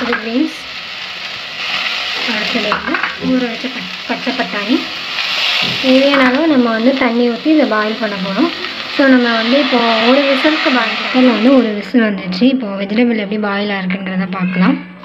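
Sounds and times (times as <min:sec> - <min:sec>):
vegetables sizzling in hot oil: 0:00.0 - 0:12.5.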